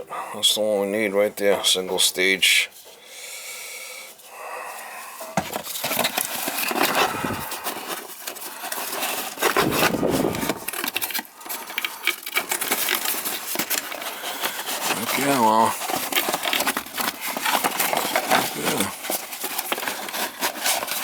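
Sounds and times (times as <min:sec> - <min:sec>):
parts and packaging rummaged by hand: 0:04.1 - 0:21.0.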